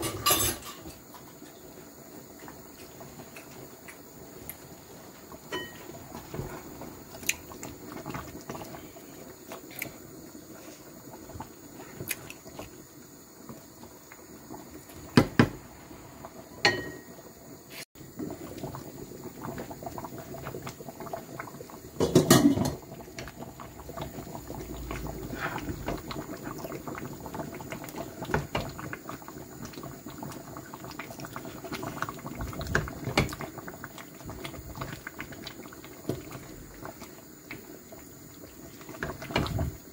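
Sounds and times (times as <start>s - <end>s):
soup bubbling: 0.9s - 39.9s.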